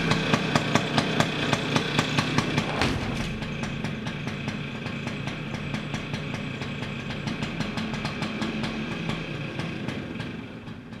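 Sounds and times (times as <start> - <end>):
engine idling with ticking: 0.0 - 11.0.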